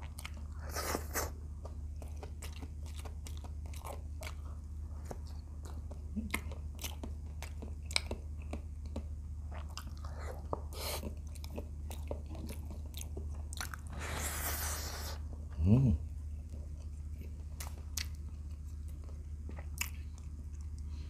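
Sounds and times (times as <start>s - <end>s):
person chewing crunchy food: 0.0s - 15.2s, 16.4s - 21.0s.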